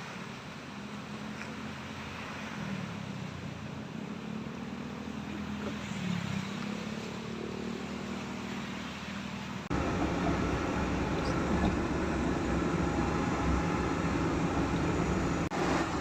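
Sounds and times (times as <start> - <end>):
road and wind noise: 0.0 - 16.0
vehicle engine hum: 0.0 - 16.0.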